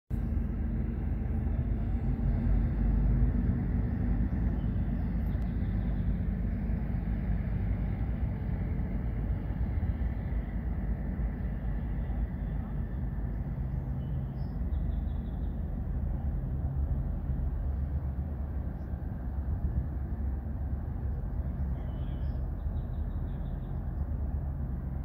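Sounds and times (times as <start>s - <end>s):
low outdoor rumble: 0.1s - 25.0s.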